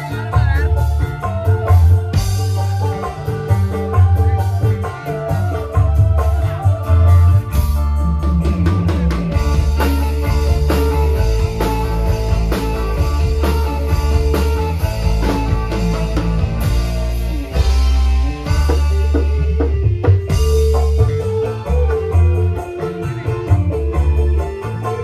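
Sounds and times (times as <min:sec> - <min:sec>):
booming bass: 0:00.0 - 0:25.0
live band playing through pa: 0:00.0 - 0:25.0.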